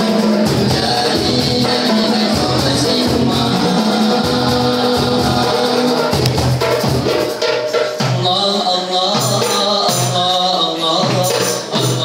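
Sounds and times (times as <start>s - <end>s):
drum beats: 0.0s - 12.0s
group singing in harmony: 0.0s - 12.0s.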